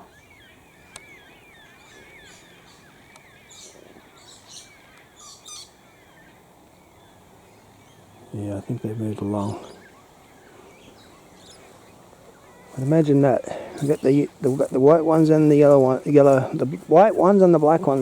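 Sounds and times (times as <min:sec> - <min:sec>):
harsh hissy bird calls: 0:00.0 - 0:18.0.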